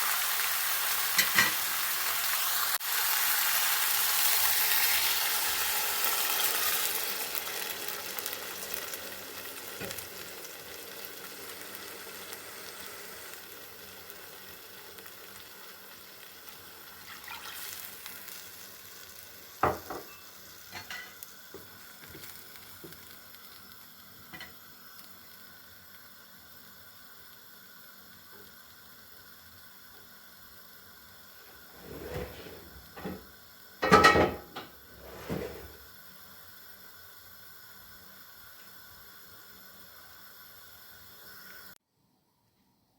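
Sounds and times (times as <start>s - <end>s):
food sizzling in a pan: 0.0s - 41.8s.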